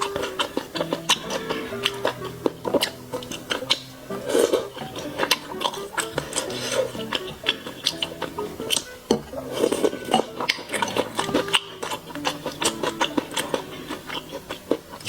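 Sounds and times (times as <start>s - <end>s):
background music: 0.0s - 15.0s
utensils clicking against a bowl: 0.0s - 15.0s
wet chewing and smacking: 0.0s - 15.0s.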